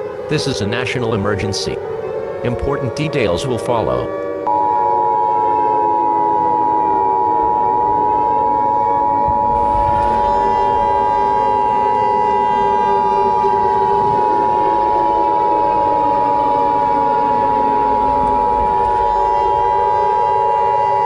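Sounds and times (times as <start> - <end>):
low siren-like drone: 0.0 - 21.0.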